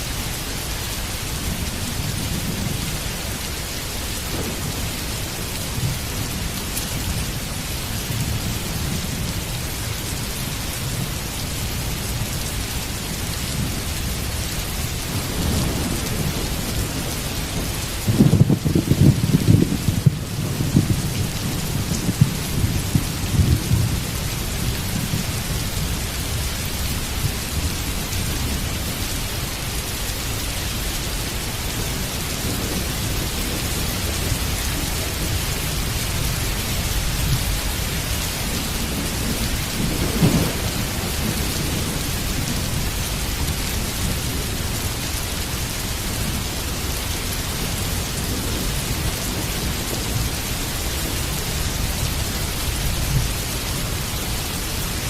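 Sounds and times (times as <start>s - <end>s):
heavy rain falling: 0.0s - 55.0s
low rolling thunder: 0.7s - 55.0s.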